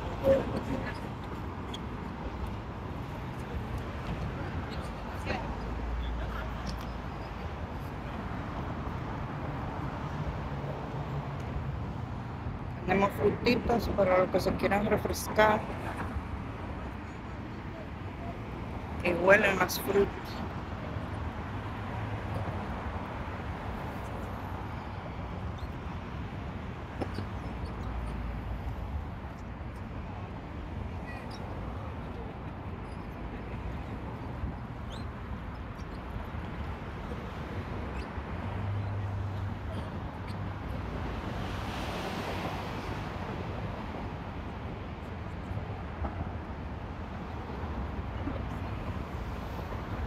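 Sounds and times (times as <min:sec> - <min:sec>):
traffic on bridge: 0:00.0 - 0:50.0.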